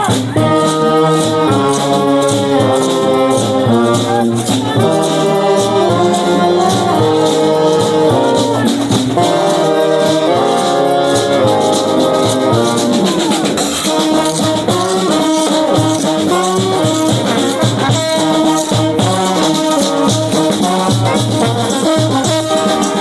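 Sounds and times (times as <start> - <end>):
brass horns in harmony: 0.0 - 23.0
shaker and percussion beat: 0.0 - 23.0.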